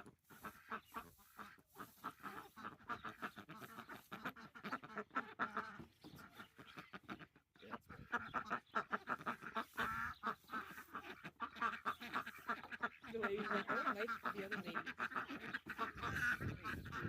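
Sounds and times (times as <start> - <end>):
ducks quacking: 0.0 - 17.0.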